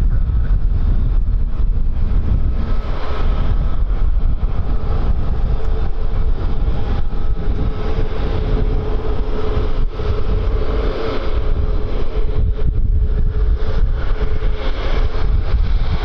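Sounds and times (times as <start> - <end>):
jet engines whining: 0.0 - 16.0
wind buffeting microphone: 0.0 - 16.0.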